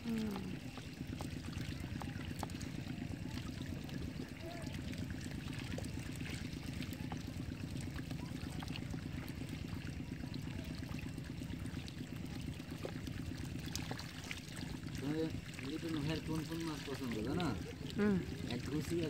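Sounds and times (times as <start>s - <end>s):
water pouring through gap: 0.0s - 19.0s.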